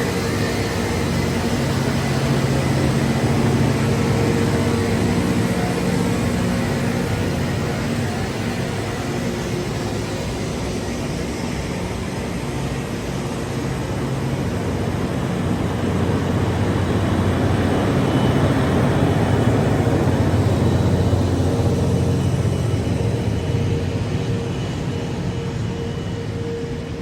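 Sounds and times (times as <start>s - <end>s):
diesel railway engine running: 0.0s - 27.0s.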